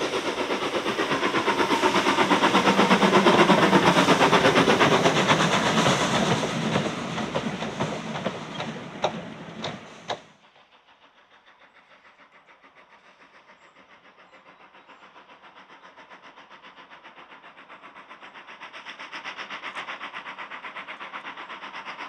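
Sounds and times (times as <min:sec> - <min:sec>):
steam locomotive exhaust beat: 0:00.0 - 0:22.0
train wheels clicking over rail joints: 0:00.0 - 0:22.0.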